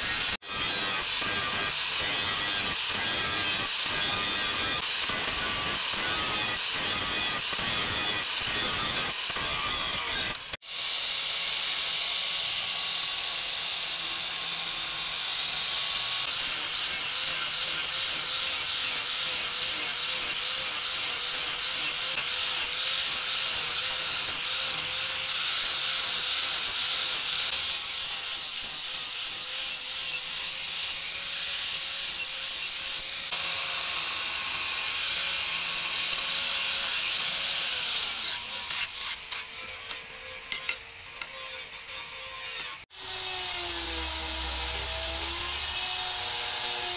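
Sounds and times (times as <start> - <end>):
grinder polishing steel whirring: 0.0 - 46.9.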